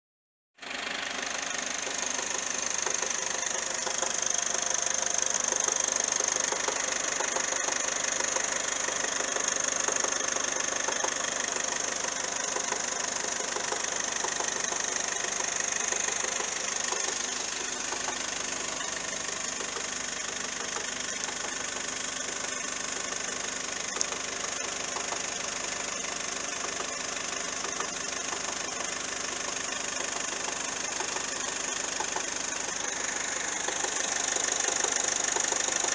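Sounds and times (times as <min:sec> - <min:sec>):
car engine idling: 0:00.6 - 0:35.9.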